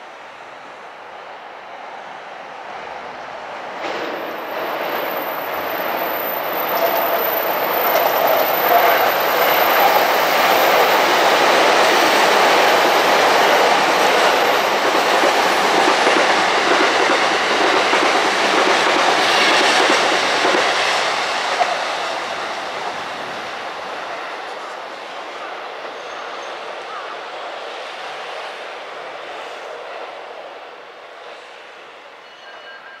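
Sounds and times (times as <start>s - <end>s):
electric train passing: 0.0s - 33.0s.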